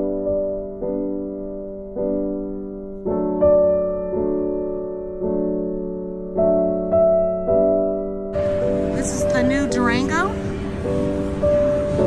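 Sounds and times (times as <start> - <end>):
slow piano chords: 0.0 - 12.0.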